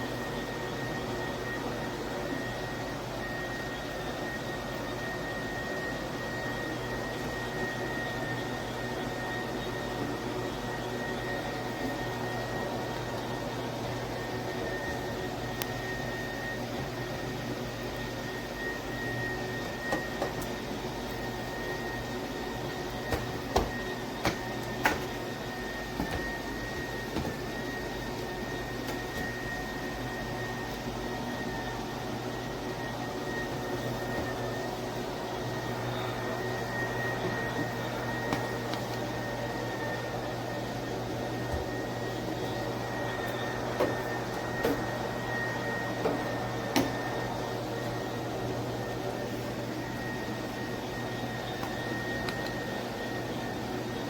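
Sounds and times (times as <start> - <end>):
electric spin mop humming: 0.0 - 54.0.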